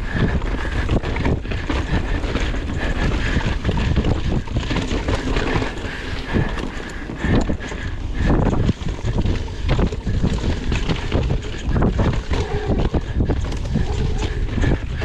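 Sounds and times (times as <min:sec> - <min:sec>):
bike clacking and rattling: 0:00.0 - 0:15.0
tyres rumbling over dirt and rocks: 0:00.0 - 0:15.0
wind buffeting microphone: 0:00.0 - 0:15.0.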